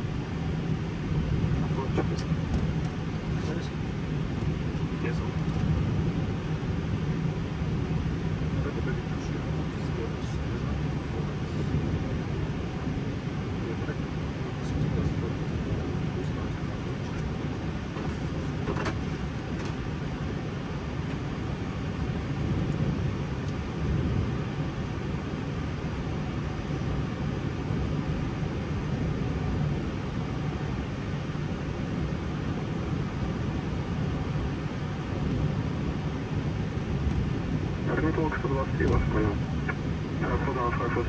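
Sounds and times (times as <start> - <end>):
low rumble of idling jet engines: 0.0 - 41.0.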